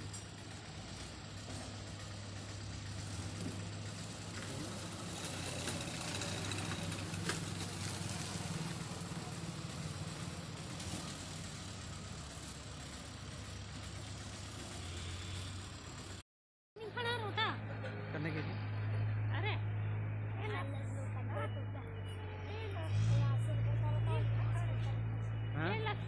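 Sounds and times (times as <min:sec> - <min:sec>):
machinery engine idling: 0:00.0 - 0:16.2, 0:16.8 - 0:26.0.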